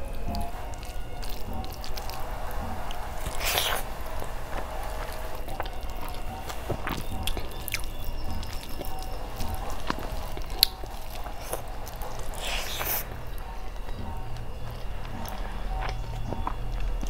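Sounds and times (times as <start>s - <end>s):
fingers squelching through rice: 0.0s - 17.0s
wet chewing: 0.0s - 17.0s.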